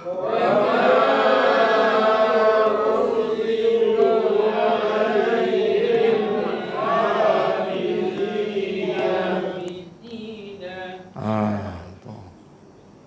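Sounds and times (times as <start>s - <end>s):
voices chanting in unison: 0.0s - 11.9s.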